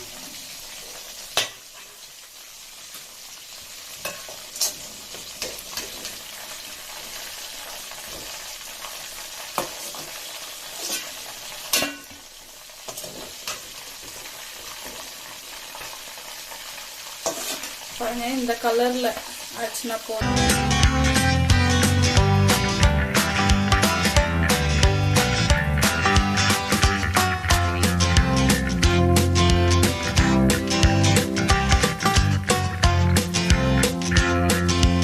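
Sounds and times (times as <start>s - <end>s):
chicken deep-frying in oil: 0.0s - 35.0s.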